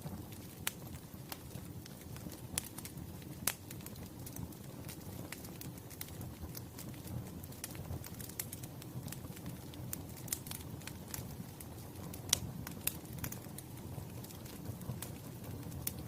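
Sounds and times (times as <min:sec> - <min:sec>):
low rumble of flame: 0:00.0 - 0:16.0
wood fire crackling: 0:00.0 - 0:16.0.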